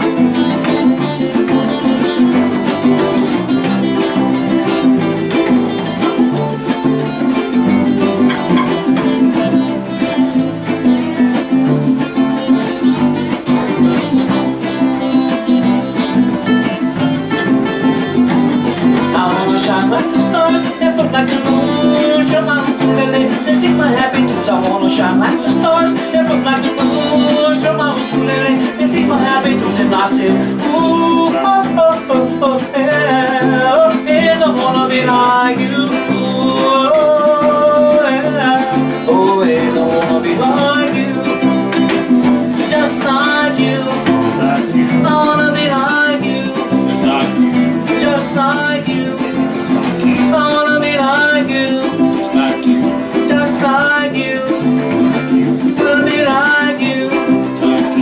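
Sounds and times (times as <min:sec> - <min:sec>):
acoustic guitar strumming: 0:00.0 - 0:58.0
person singing: 0:00.0 - 0:58.0.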